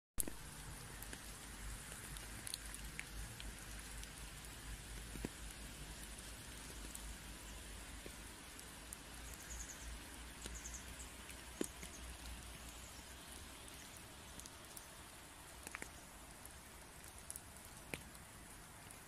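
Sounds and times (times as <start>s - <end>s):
drip ticks: 0.2s - 19.0s
light rain hiss: 0.2s - 19.0s.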